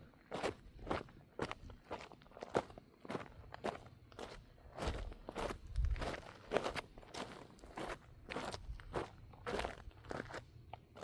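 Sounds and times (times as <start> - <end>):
footsteps on outdoor ground: 0.0 - 11.0.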